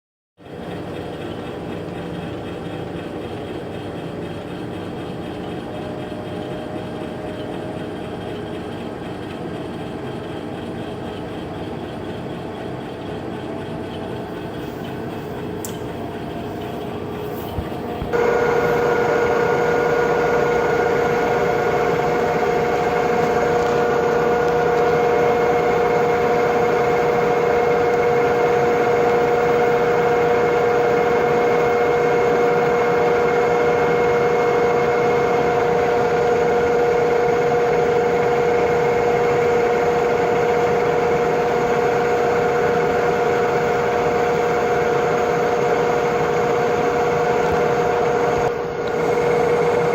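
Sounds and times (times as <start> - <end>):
lathe whining: 0.6 - 49.9.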